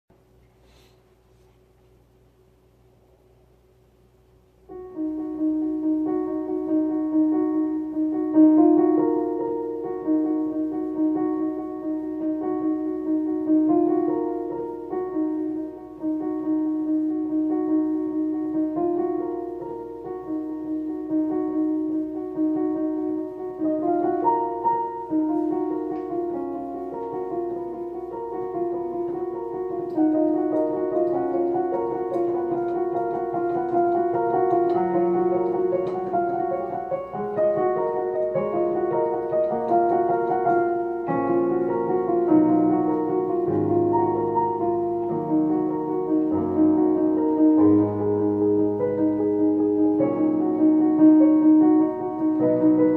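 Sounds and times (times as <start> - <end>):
solo piano slow melody: 0.1 - 52.9.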